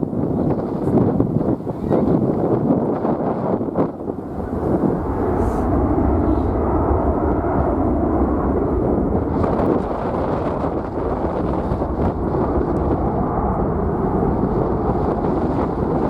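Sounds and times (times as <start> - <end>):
jet airliner roar: 0.0 - 16.0
wind buffeting microphone: 0.0 - 16.0.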